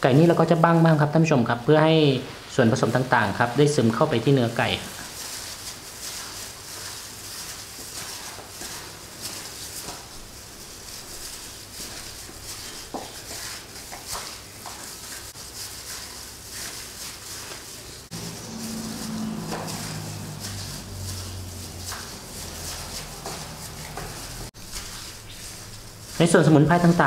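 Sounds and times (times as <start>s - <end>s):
plastic glove rustling: 0.0s - 27.0s
wet squishing of meat: 4.8s - 27.0s.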